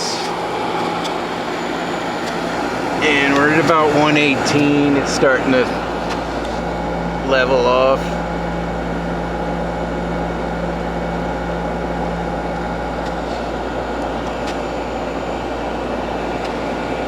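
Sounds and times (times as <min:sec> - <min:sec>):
air conditioner fan blowing: 0:00.0 - 0:17.0
compressor hum: 0:00.0 - 0:17.0.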